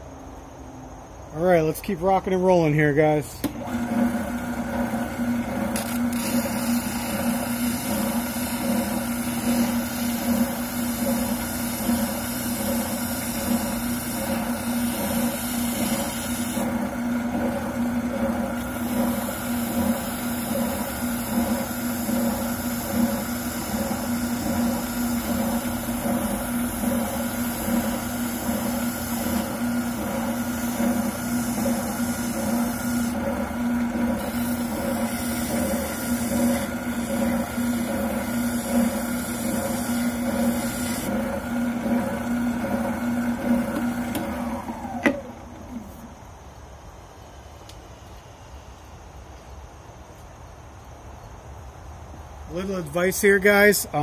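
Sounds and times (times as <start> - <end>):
sander motor hum: 1.3 - 46.3.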